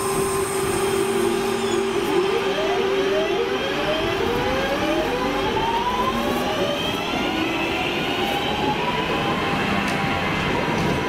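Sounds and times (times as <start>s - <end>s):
train drive whine rising: 0.0s - 10.9s.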